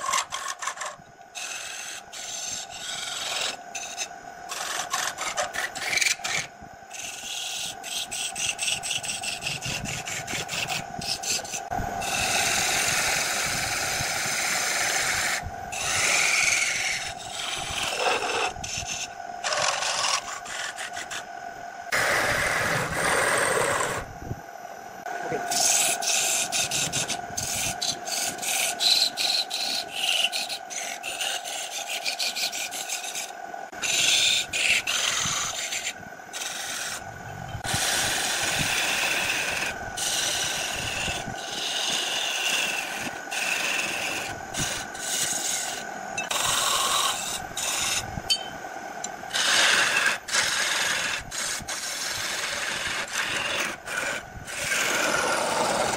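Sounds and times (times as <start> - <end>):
chisel cutting spinning wood: 0.0 - 21.3, 21.9 - 24.1, 25.2 - 55.9
wood lathe motor whine: 0.0 - 24.4, 25.0 - 55.9.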